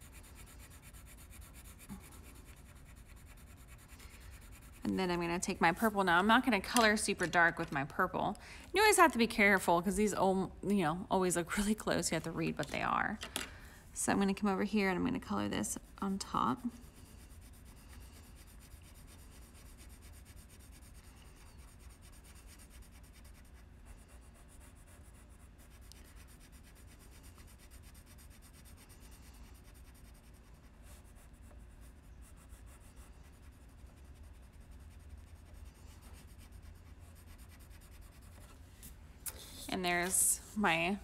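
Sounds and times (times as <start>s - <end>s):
colored pencil scratching on paper: 0.0s - 6.9s, 14.9s - 40.8s
low steady hum: 0.0s - 41.0s.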